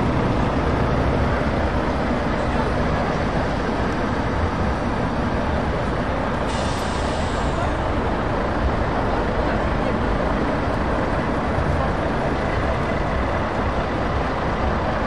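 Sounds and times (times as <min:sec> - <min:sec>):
truck diesel engine rolling past: 0:00.0 - 0:15.0.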